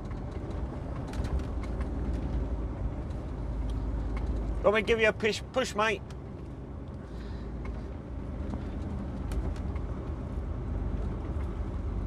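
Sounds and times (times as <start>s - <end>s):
lorry engine and road drone: 0.0s - 12.0s.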